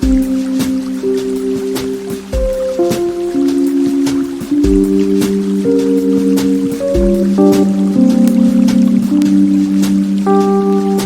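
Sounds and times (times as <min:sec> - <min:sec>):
running water: 0:00.0 - 0:11.0
sharp drip-like ticks: 0:00.0 - 0:11.0
slow ambient music: 0:00.0 - 0:11.0.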